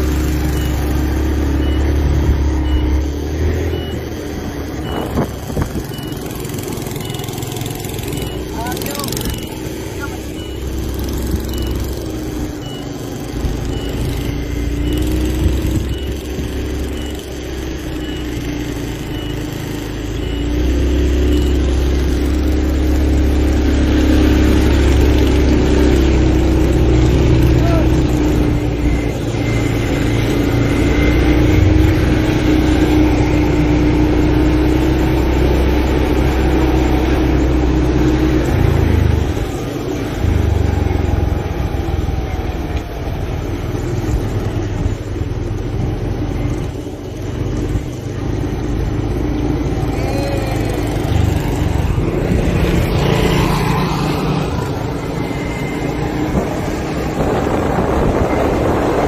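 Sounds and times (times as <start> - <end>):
scooter engines droning: 0.0 - 59.0.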